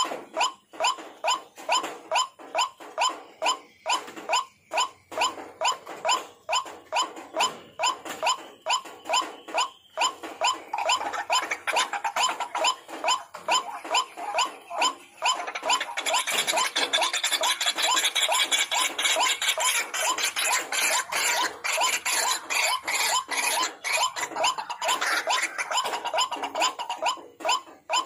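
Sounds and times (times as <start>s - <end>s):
waterhen calling harsh notes: 0.0s - 28.0s.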